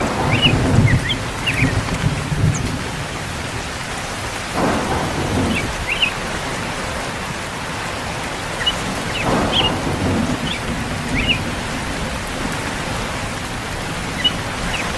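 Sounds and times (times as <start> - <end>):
rain falling: 0.0 - 14.9
thunder rolling: 0.0 - 14.9.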